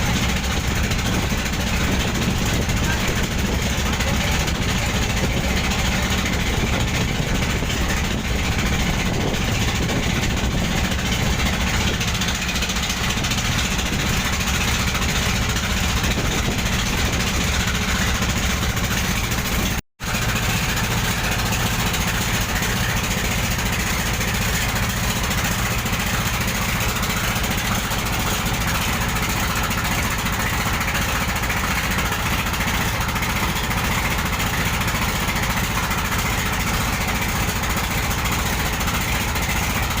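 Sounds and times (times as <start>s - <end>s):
boat engine running: 0.0s - 40.0s.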